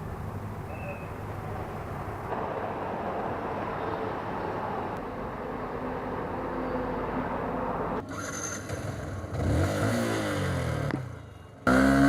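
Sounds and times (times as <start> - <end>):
wind and road rush: 0.0 - 12.0.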